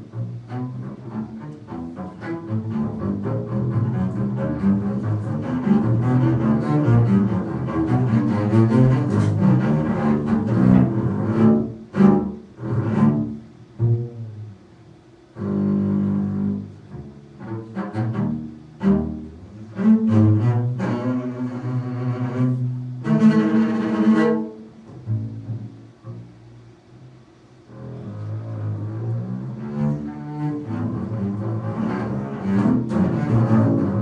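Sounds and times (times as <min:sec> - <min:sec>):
low bowed string instrument: 0:00.0 - 0:34.0.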